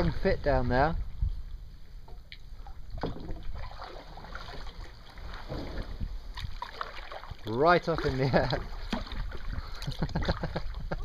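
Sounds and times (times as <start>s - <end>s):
water splashing around kayak: 0.0s - 11.0s
wind rumble on microphone: 0.0s - 11.0s.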